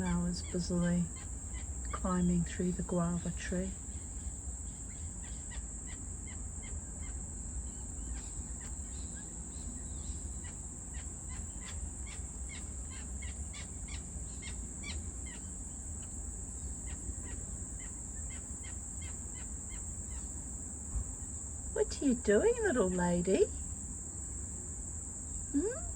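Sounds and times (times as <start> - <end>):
crickets droning: 0.0 - 25.9.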